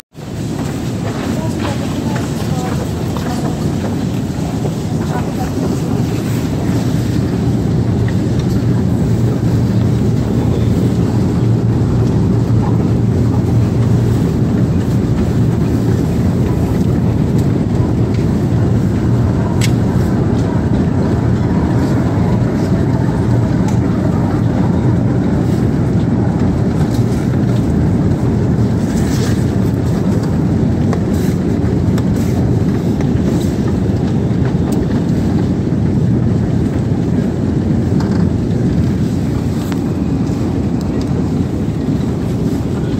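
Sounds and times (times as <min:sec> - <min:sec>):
escalator humming and rumbling: 0:00.0 - 0:42.9.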